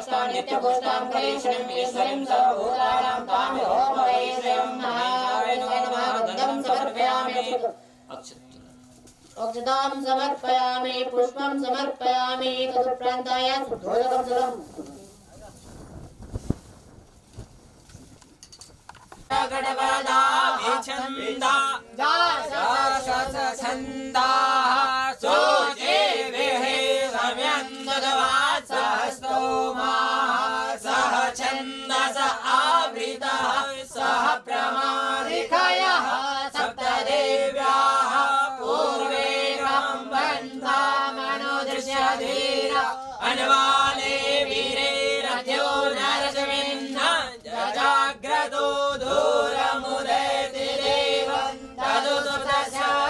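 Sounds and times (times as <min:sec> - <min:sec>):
person chanting mantras: 0:00.0 - 0:07.8, 0:09.4 - 0:15.1, 0:19.3 - 0:53.0.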